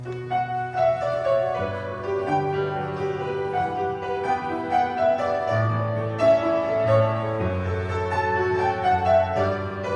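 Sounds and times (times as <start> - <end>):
piano chords over bass line: 0.0 - 9.9.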